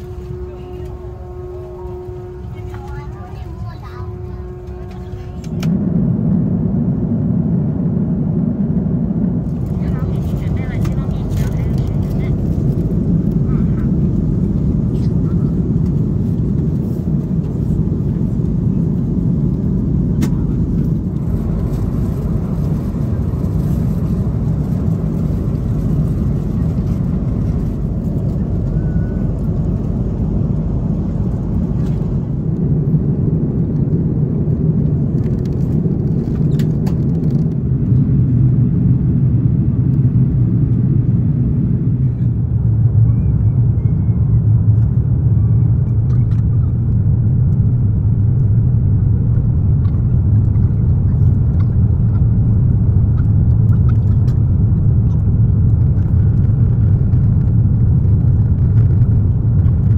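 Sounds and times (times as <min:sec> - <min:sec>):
airliner engines and airflow rumble: 0:00.0 - 0:59.9.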